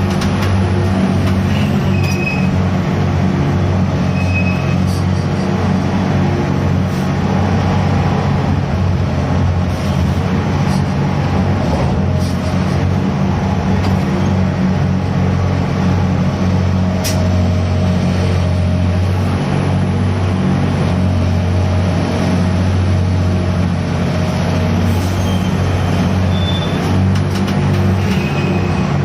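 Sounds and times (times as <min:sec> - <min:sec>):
diesel machinery droning: 0:00.0 - 0:29.0.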